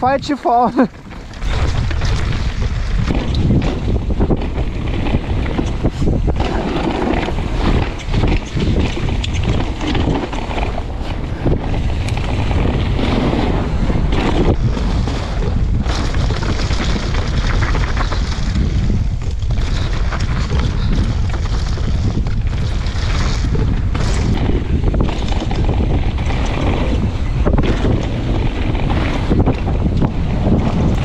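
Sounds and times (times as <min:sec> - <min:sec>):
bike rattling: 0:00.0 - 0:31.0
wind buffeting microphone: 0:00.0 - 0:31.0
tyres rumbling over stones: 0:00.8 - 0:31.0.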